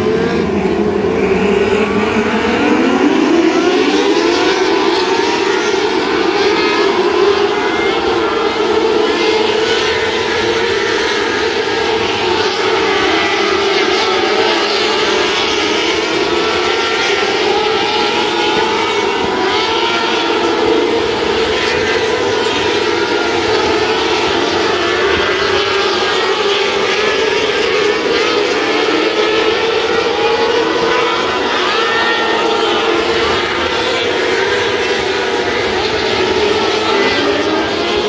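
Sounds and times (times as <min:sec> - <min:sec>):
racing car engines revving: 0:00.0 - 0:38.0.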